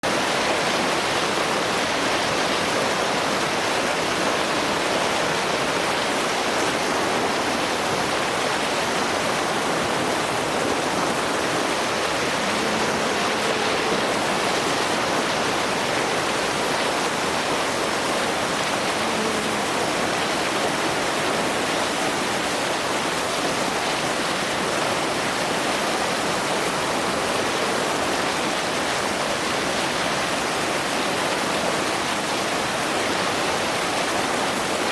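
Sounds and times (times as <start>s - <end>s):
water rushing over rapids: 0.0s - 34.9s.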